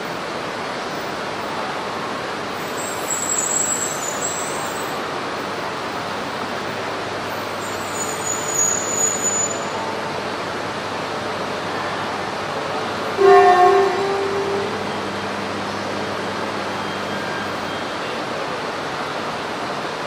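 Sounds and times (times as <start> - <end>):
train running noise: 0.0 - 20.0
high train squeals: 2.4 - 10.6, 11.6 - 20.0.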